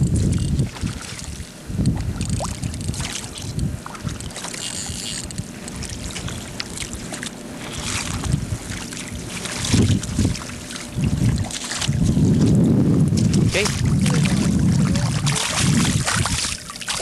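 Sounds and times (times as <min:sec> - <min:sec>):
water splashing in shallows: 0:00.0 - 0:17.0
wind buffeting microphone: 0:00.0 - 0:17.0.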